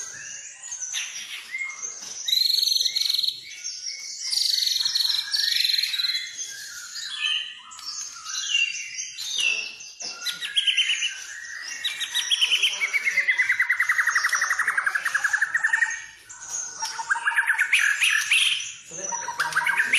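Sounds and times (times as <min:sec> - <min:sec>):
songbird whistling and chipping: 0:00.0 - 0:19.9.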